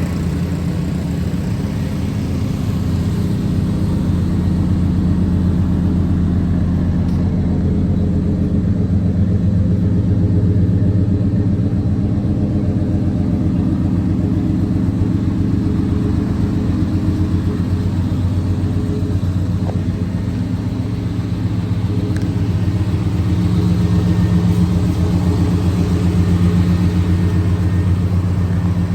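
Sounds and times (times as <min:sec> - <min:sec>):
pickup engine idling: 0:00.0 - 0:28.9.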